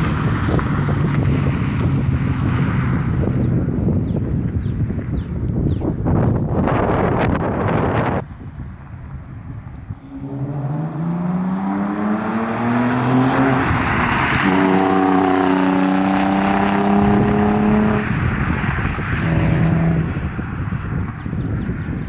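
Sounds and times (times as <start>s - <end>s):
car exhaust accelerating: 0.0s - 22.0s.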